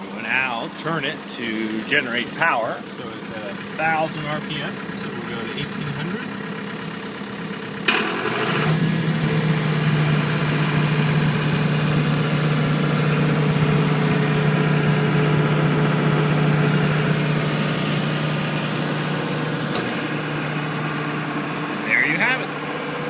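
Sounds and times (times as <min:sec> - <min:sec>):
diesel generator engine humming: 0:00.0 - 0:23.0.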